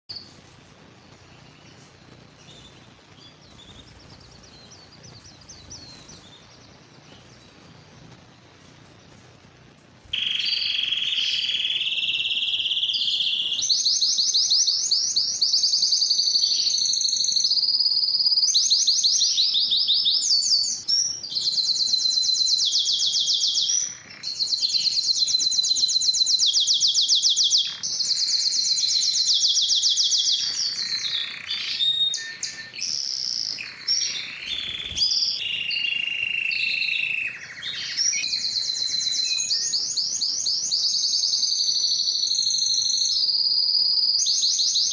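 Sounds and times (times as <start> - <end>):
canary singing trills: 0.1 - 44.9.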